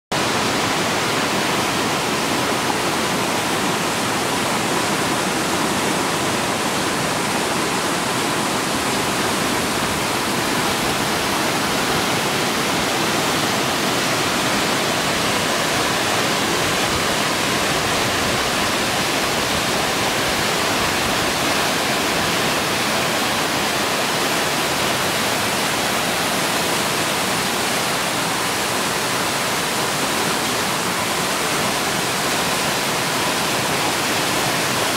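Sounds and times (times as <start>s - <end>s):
waterfall rushing over boulders: 0.1s - 34.9s.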